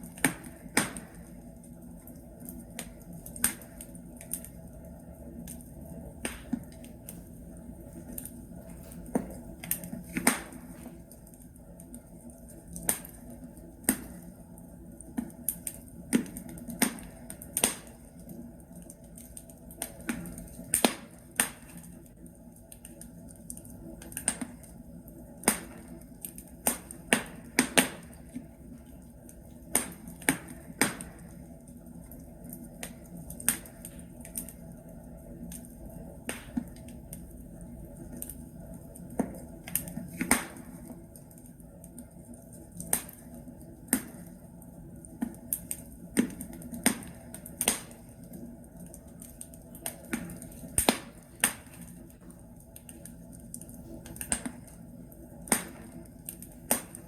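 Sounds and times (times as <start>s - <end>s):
logs crackling in a fireplace: 0.0s - 57.0s.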